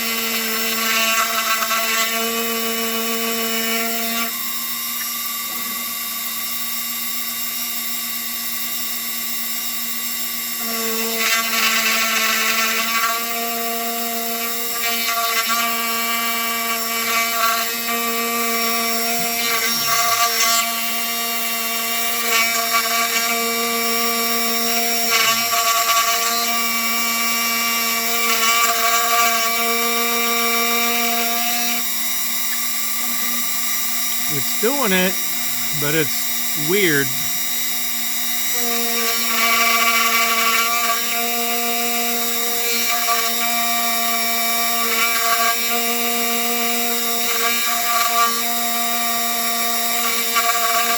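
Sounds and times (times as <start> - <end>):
rotary tool whining: 0.0 - 50.9.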